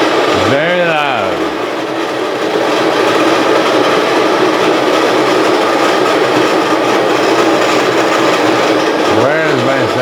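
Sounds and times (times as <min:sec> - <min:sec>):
coffee grinder whirring: 0:00.0 - 0:10.0.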